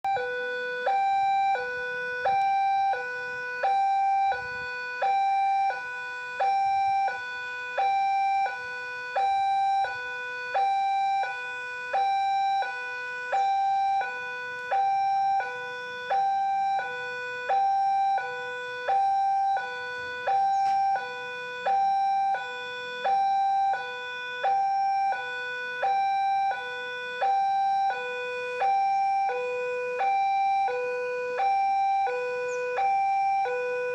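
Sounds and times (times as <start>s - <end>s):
two-tone level crossing alarm: 0.0s - 33.9s.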